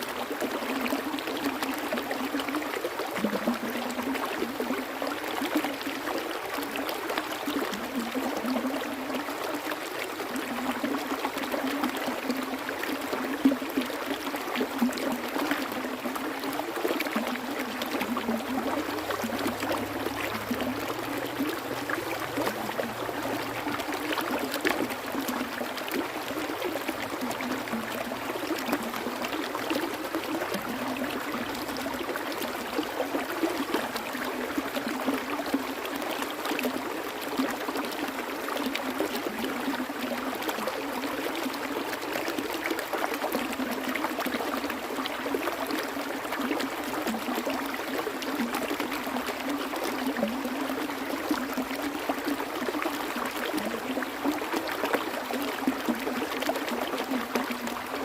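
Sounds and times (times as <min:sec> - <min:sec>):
stream water rushing: 0:08.9 - 0:58.0.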